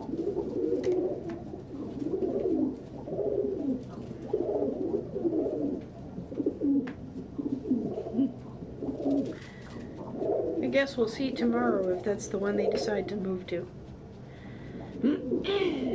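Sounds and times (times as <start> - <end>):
pigeons cooing: 0.0 - 13.5, 14.2 - 15.9.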